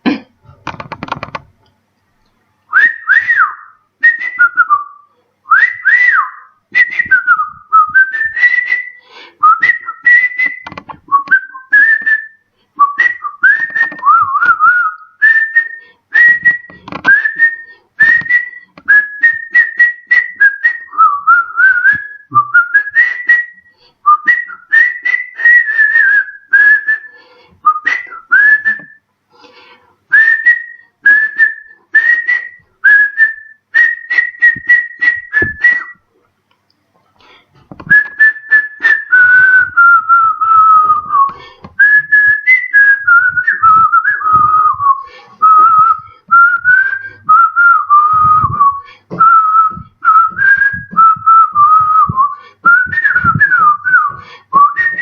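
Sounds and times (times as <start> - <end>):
man whistling: 2.7 - 29.0, 30.1 - 36.1, 37.8 - 55.0.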